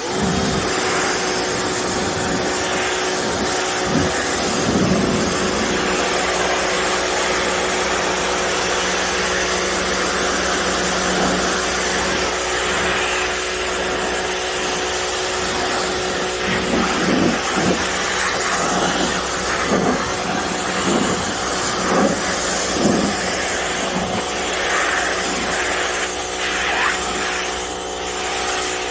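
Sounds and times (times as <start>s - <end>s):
high-pressure spray hissing: 0.0s - 28.9s
pressure washer engine drone: 0.0s - 28.9s.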